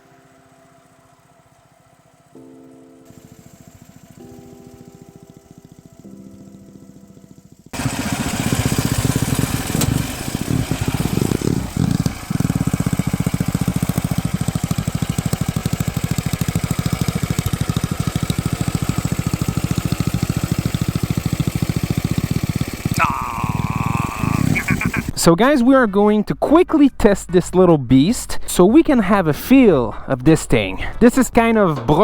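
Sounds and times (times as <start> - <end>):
single-cylinder engine running: 0.0 - 25.2, 30.8 - 32.0.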